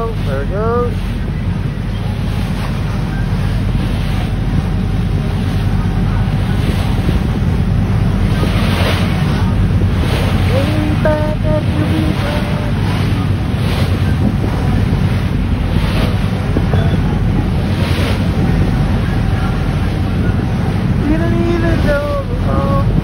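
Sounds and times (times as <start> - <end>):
choppy sea washing: 0.0 - 23.0
low steady rumble: 0.0 - 23.0
wind buffeting microphone: 0.0 - 23.0.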